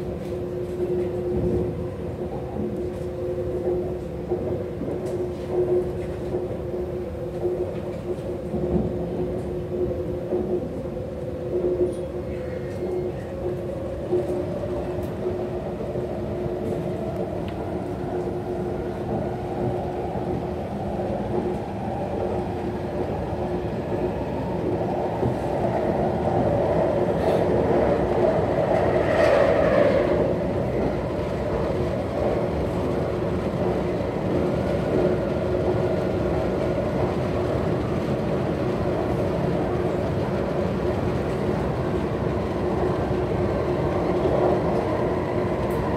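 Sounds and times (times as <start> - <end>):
electric train cabin rumble: 0.0 - 45.9.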